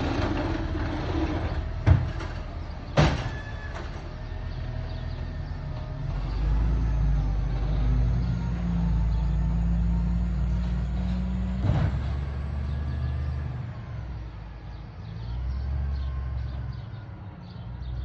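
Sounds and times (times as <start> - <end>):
garbage truck engine drone: 0.0 - 18.0.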